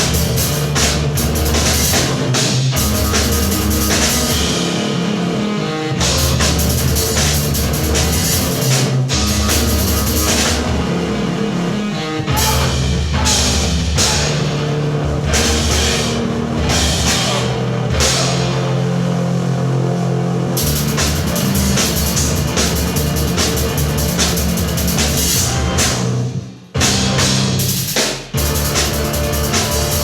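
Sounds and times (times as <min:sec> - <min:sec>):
sustained low bass notes: 0:00.0 - 0:27.7, 0:28.4 - 0:30.0
drum kit and cymbals: 0:00.0 - 0:30.0
rock band playing live: 0:00.0 - 0:30.0.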